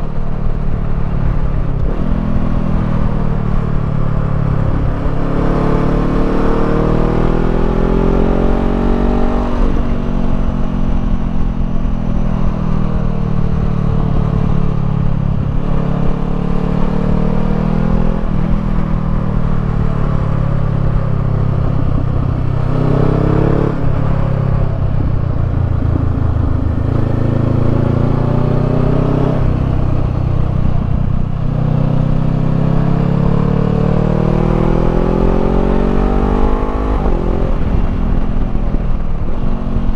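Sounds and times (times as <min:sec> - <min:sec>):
wind rumble on microphone: 0:00.0 - 0:39.9
motorcycle engine revving: 0:01.2 - 0:39.9.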